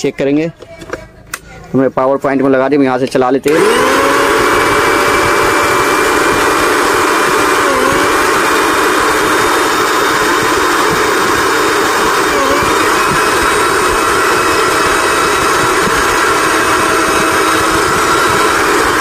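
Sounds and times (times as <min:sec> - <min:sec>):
mixer grinder running: 0:03.3 - 0:19.0.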